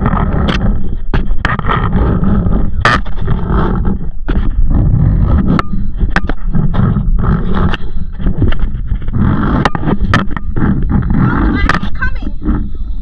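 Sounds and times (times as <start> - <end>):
trolley scraping along cable: 0.0 - 13.0
wind buffeting microphone: 0.0 - 13.0.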